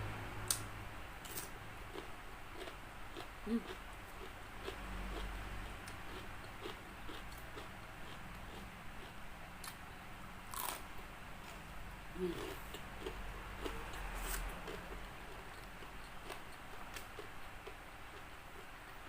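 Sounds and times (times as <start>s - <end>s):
chewing crispy fried chicken: 1.3s - 9.8s, 10.5s - 10.8s, 12.2s - 19.0s.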